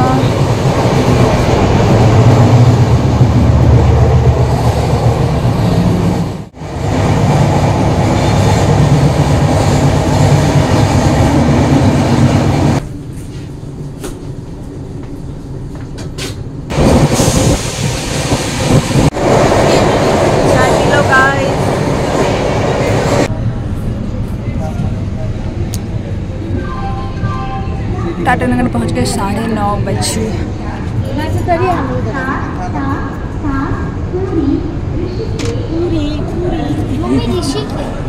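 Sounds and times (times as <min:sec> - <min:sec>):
train rumble with rail clatter: 0:00.0 - 0:38.0.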